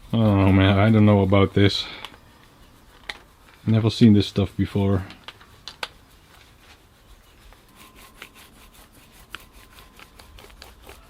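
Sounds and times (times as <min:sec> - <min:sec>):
faint rubbing: 0:00.0 - 0:11.0.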